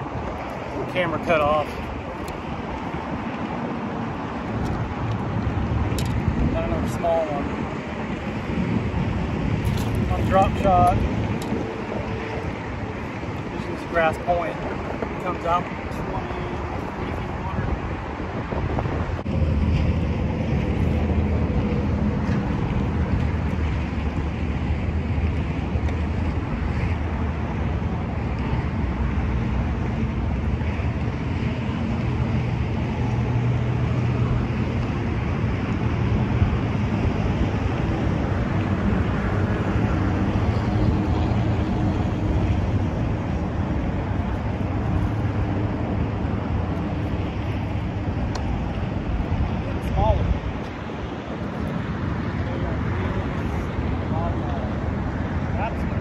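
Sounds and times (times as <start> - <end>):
road traffic rumble: 0.0 - 56.0
wind noise on microphone: 0.0 - 56.0.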